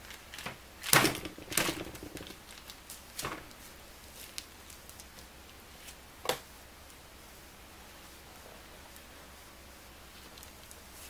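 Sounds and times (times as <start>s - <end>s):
ground meat handling noises: 0.0s - 11.0s.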